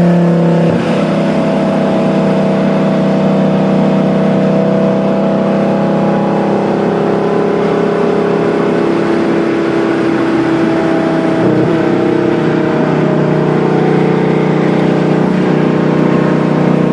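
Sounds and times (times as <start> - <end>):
car engine droning: 0.0 - 16.9.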